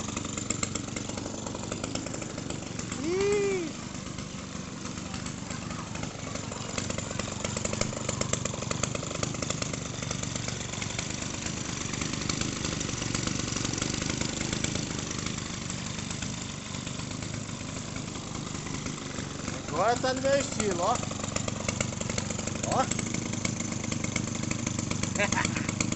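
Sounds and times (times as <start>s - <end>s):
two-stroke model aircraft engine: 0.0s - 25.9s.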